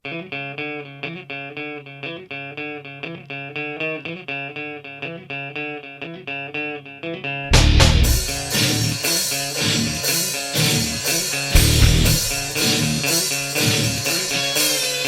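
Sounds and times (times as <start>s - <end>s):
solo guitar arpeggios: 0.0s - 14.7s.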